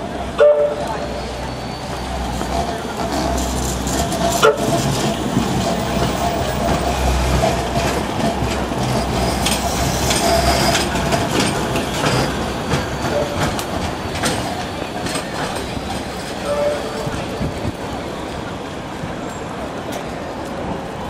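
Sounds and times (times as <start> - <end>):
tram rumbling on rails: 0.0 - 21.0.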